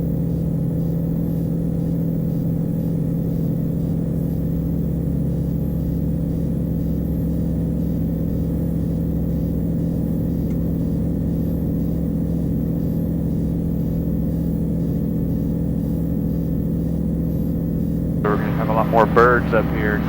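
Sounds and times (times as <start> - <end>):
aircraft engine and propeller drone: 3.0 - 20.0.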